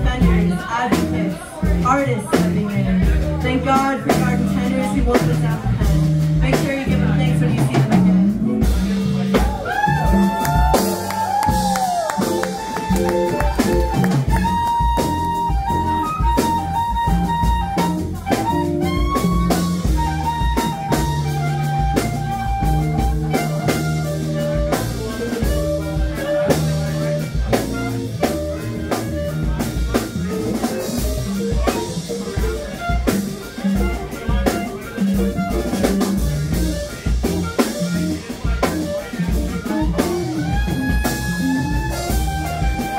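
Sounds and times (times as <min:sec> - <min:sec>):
clarinet melody: 0:00.0 - 0:42.9
drum kit: 0:00.0 - 0:42.9
electric guitar: 0:00.0 - 0:42.9
upright bass: 0:00.0 - 0:42.9.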